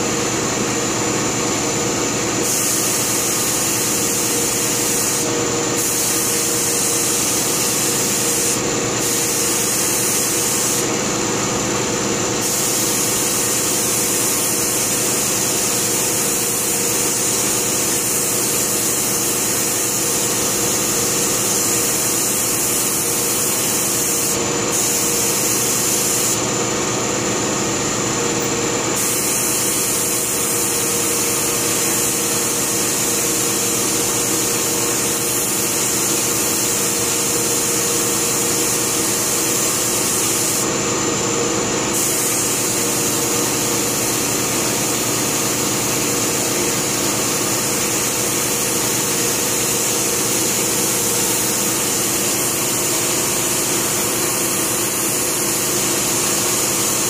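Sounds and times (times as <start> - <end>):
spray gun hissing: 2.4 - 10.9, 12.4 - 26.4, 29.0 - 40.7, 41.9 - 57.0.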